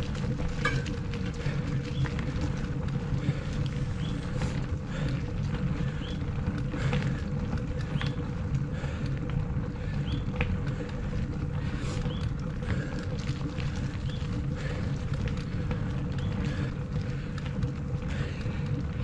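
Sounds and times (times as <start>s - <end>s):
bike clicks and rattles: 0.0s - 19.0s
bike tyres rumbling: 0.0s - 19.0s.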